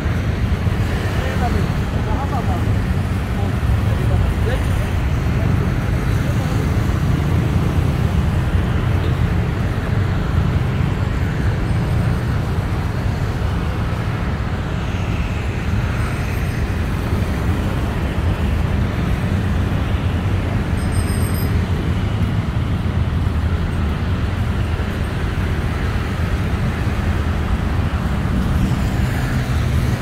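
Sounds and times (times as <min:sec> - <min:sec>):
city road traffic rumble: 0:00.0 - 0:30.0.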